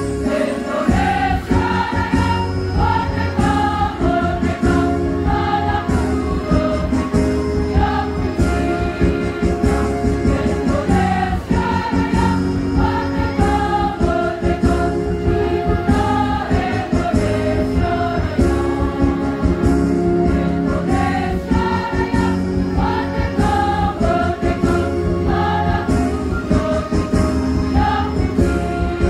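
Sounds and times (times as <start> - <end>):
instrumental backing with beat: 0.0 - 29.0
women's choir singing: 0.0 - 29.0.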